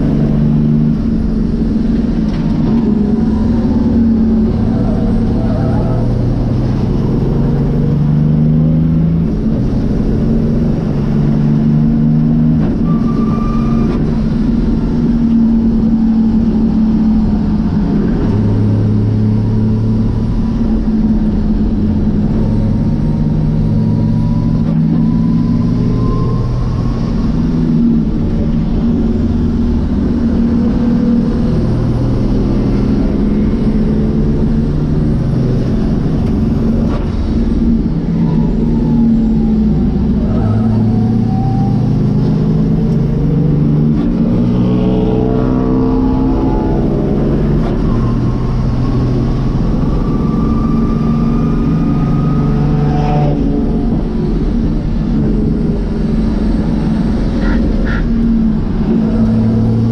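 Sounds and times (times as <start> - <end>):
diesel race car engine revving: 0.0 - 59.9.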